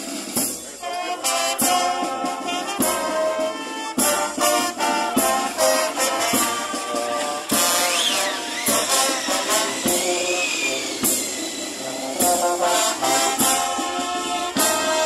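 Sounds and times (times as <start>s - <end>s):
brass band playing: 0.0s - 15.0s
drum strokes: 0.0s - 15.0s.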